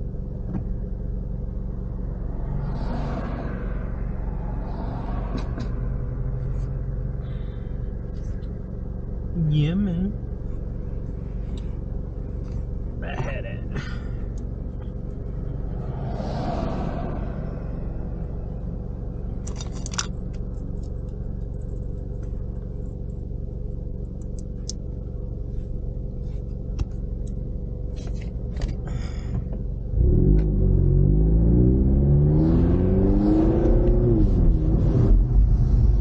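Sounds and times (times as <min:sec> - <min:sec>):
car engine idling and accelerating: 0:00.0 - 0:36.0.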